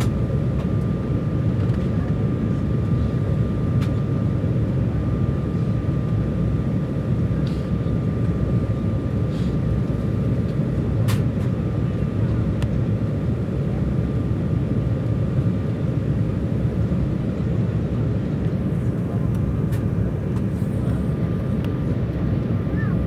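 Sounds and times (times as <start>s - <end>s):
jet airliner cabin rumble: 0.0s - 23.0s.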